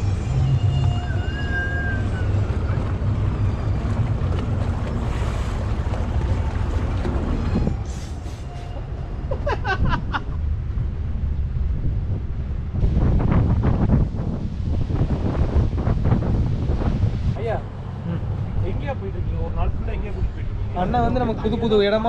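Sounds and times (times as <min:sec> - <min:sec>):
boat engine rumble: 0:00.0 - 0:22.0
wind buffeting the microphone: 0:01.9 - 0:22.0.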